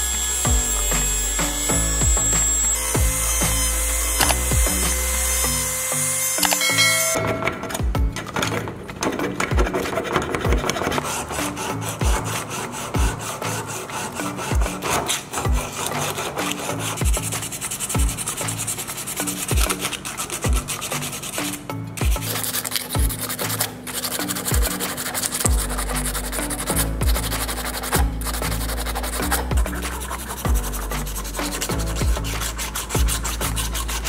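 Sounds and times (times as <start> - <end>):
music with bass beat: 0.0 - 8.3, 9.5 - 13.8, 14.4 - 18.8, 19.4 - 19.8, 20.4 - 23.4, 24.4 - 34.0
sandpaper scraping metal: 0.0 - 34.0.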